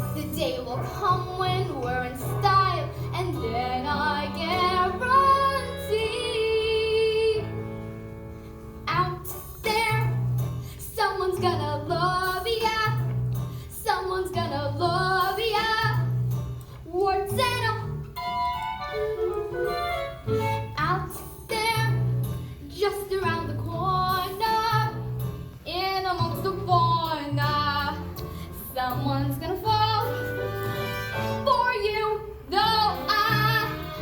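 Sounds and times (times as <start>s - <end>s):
instrumental accompaniment with bass: 0.0s - 34.0s.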